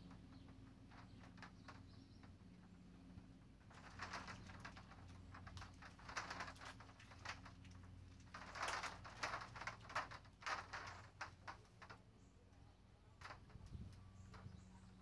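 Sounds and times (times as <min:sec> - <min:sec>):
faint low hum: 0:00.0 - 0:15.0
tubing rubbing and clicking: 0:00.0 - 0:15.0.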